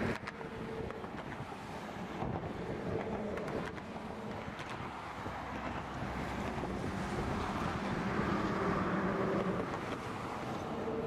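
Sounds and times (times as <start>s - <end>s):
steady low rumble: 0.0s - 11.0s
wind buffeting microphone: 0.0s - 11.0s.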